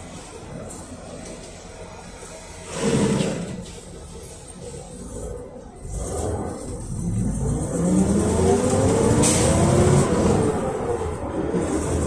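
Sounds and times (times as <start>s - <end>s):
bus engine accelerating: 0.0s - 12.0s.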